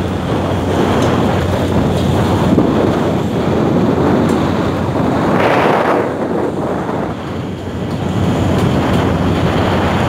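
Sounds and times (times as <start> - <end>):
seawater rushing along hull: 0.0 - 10.0
wind buffeting microphone: 0.0 - 10.0.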